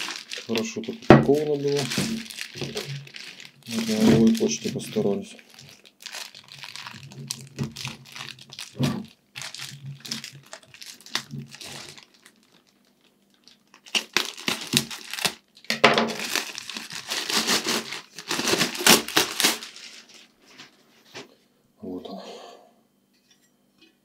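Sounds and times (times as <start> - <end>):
plastic wrapping crinkling and tearing: 0.0 - 20.8.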